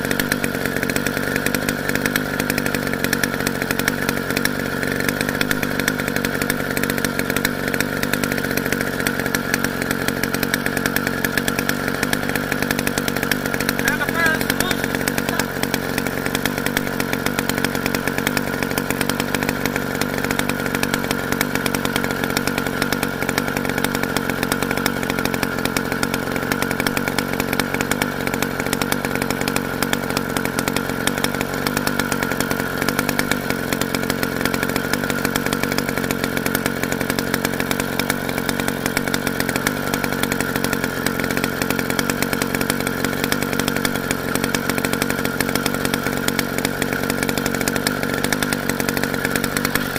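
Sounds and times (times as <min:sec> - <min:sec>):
small two-stroke engine buzzing: 0:00.0 - 0:49.9.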